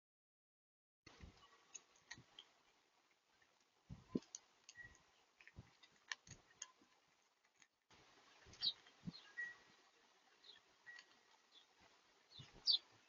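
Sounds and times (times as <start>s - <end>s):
birds pecking on feeder: 1.1s - 13.0s.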